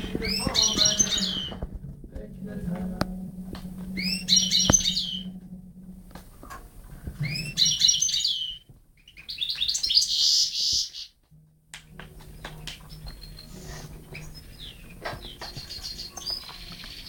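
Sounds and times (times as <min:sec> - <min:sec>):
goldfinch singing: 0:00.0 - 0:05.5, 0:07.1 - 0:11.1, 0:12.2 - 0:17.0.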